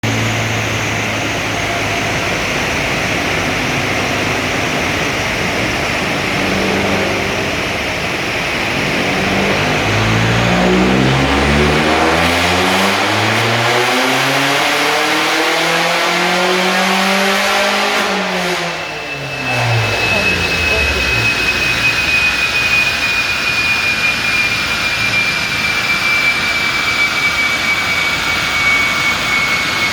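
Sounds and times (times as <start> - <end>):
car engine revving: 0.0 - 27.1.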